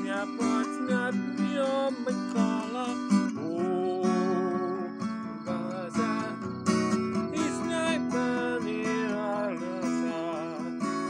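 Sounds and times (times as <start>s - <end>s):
man singing wordless melody: 0.0s - 11.0s
strummed acoustic guitar: 0.0s - 11.0s.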